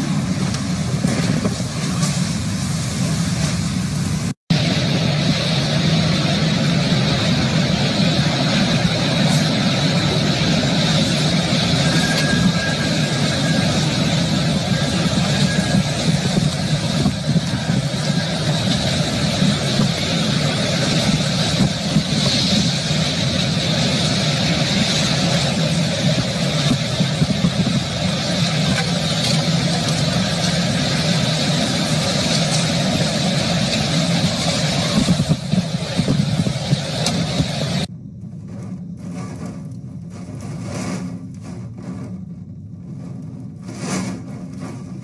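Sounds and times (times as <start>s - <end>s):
blowing rain: 0.0s - 37.9s
strong wind blowing: 0.0s - 38.0s
low rumble: 0.0s - 45.0s.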